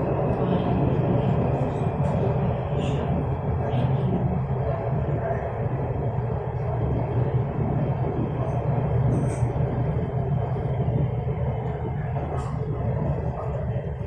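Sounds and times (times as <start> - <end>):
metro train rumbling: 0.0 - 14.0.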